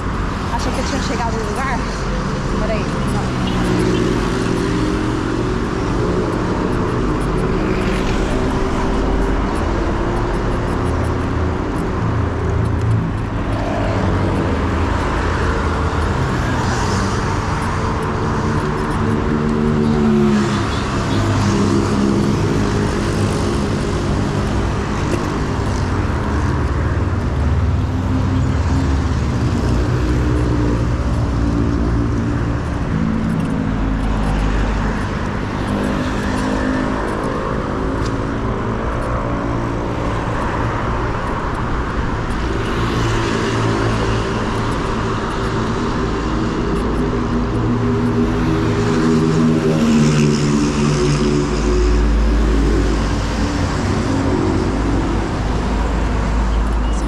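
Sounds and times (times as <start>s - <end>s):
car and bus engines: 0.0s - 57.0s
road and wind noise: 0.0s - 57.0s.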